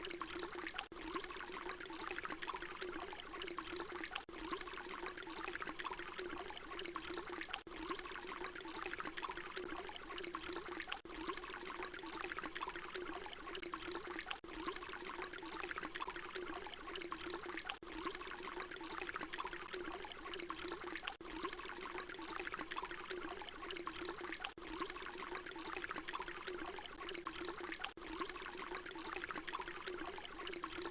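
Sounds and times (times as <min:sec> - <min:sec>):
water pouring and splashing: 0:00.0 - 0:30.9.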